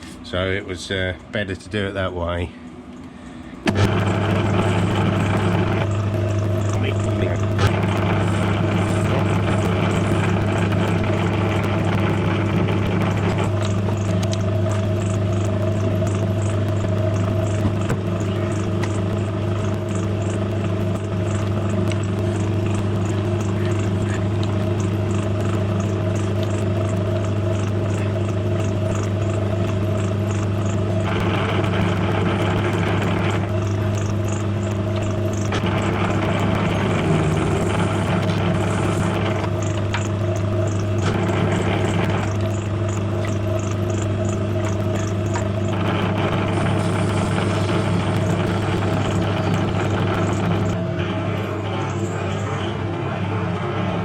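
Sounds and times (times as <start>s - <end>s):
milling machine motor hum: 0.0s - 54.0s
metal cutting noise: 3.6s - 54.0s.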